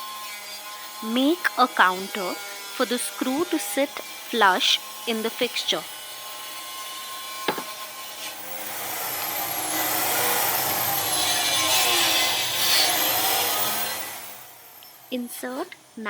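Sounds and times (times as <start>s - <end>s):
countersink bit grinding wood: 0.0s - 15.0s.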